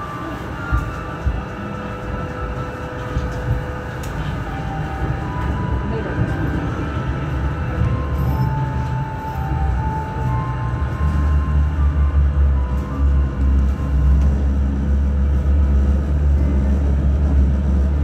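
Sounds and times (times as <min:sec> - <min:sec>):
rumble of train wheels: 0:00.0 - 0:18.0.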